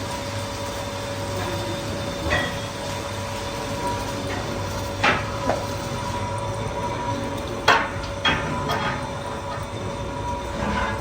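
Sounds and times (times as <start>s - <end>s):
workshop machinery humming: 0.0s - 11.0s.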